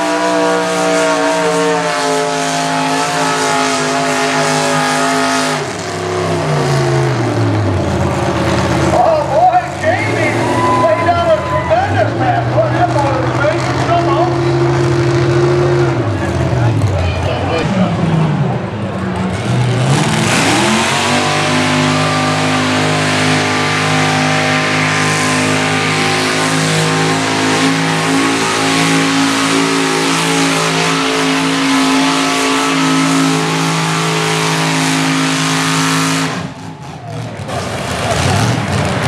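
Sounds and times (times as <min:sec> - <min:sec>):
tractor engine revving: 0:00.0 - 0:39.0.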